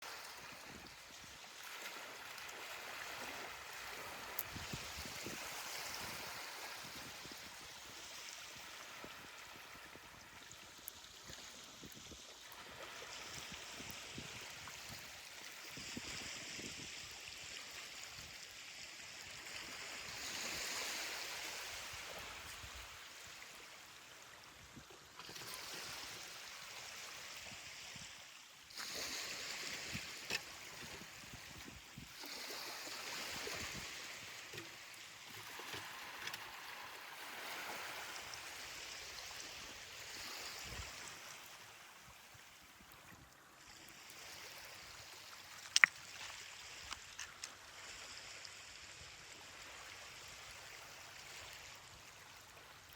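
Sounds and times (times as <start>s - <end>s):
ocean waves washing on beach: 0.0s - 52.9s.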